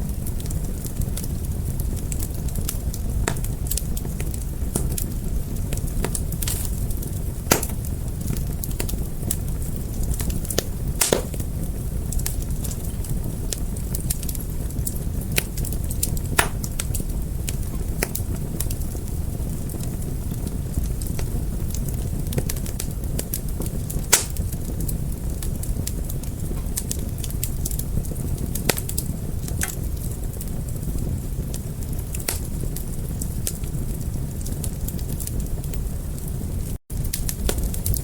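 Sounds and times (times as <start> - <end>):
fire crackling and popping: 0.0 - 38.0.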